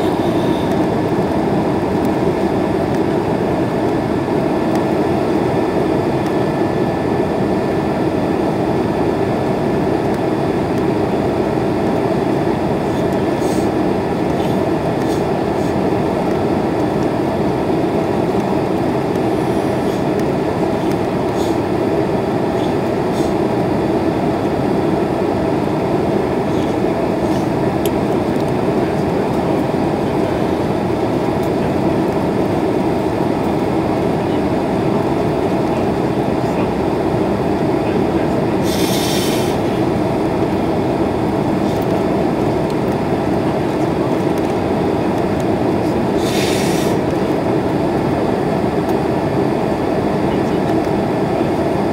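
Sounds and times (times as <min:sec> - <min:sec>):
jet airliner cabin noise: 0:00.0 - 0:51.9.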